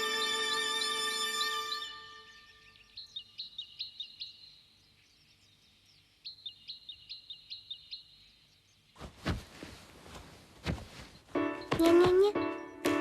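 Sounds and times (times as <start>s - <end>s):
bird chirping: 0.0s - 9.0s, 10.9s - 13.0s.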